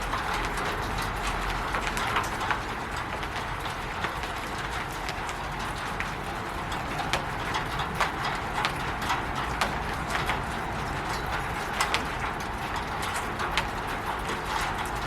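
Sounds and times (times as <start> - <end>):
rain hissing on a roof: 0.0 - 15.0
raindrops tapping sharply: 0.0 - 15.0.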